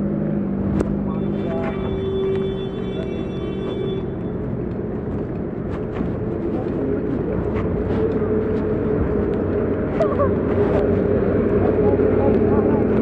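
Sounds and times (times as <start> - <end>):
heavy machinery drone: 0.0 - 13.0.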